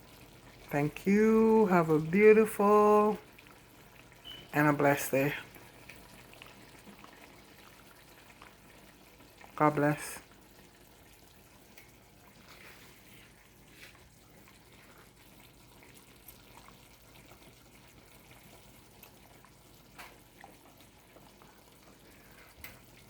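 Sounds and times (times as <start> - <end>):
stew simmering in a pot: 0.0 - 23.0.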